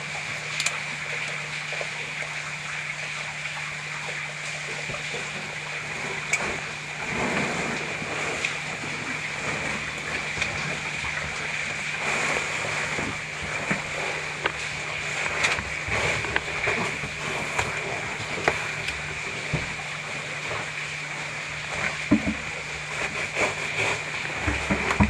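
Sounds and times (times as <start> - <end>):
steady hiss: 4.7 - 25.0.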